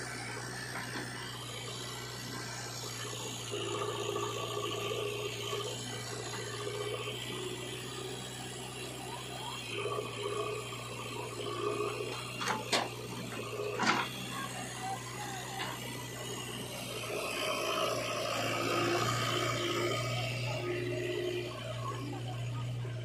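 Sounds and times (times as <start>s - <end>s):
heavy machinery diesel engine: 0.0s - 23.0s.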